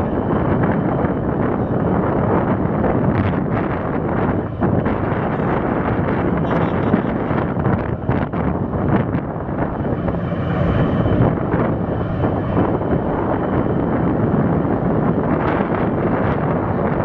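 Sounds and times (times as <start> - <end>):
ship engines humming: 0.0 - 17.0
wind buffeting microphone: 0.0 - 17.0.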